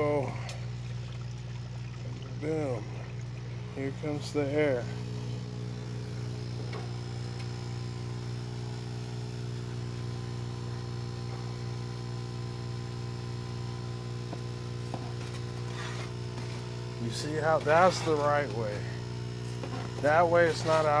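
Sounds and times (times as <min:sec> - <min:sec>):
stirrer motor electric hum: 0:00.0 - 0:21.0.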